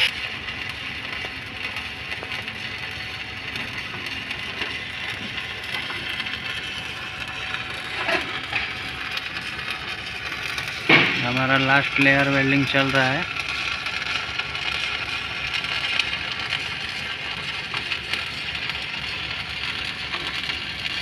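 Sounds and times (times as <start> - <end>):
welding arc crackling: 0.0 - 21.0.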